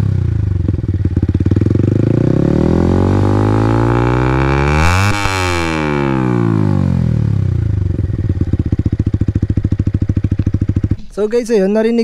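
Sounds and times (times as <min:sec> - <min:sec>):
motorcycle engine at high revs: 0:00.0 - 0:11.1.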